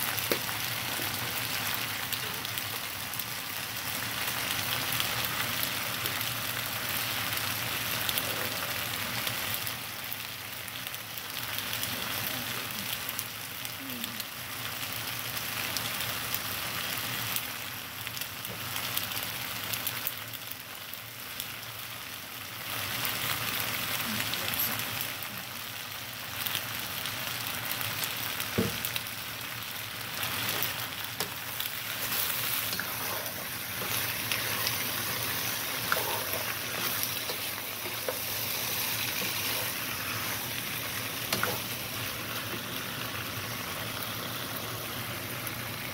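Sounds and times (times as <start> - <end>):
pasta sizzling in a pan: 0.0 - 45.9.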